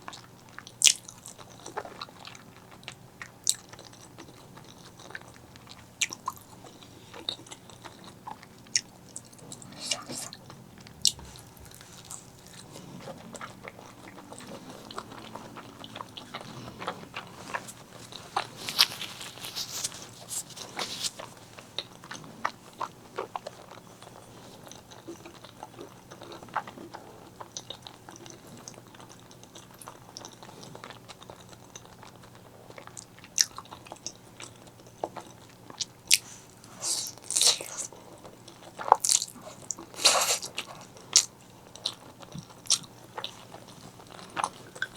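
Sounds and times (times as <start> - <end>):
chewing with mouth clicks: 0.0 - 44.9.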